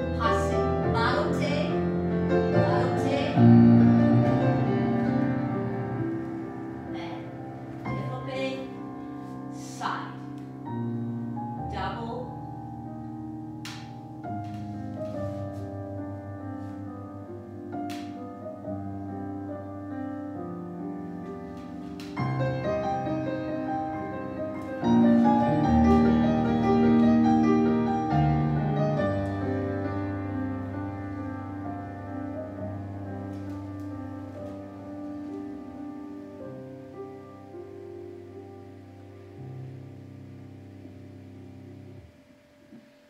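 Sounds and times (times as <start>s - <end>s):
slow solo piano chords: 0.0s - 43.0s.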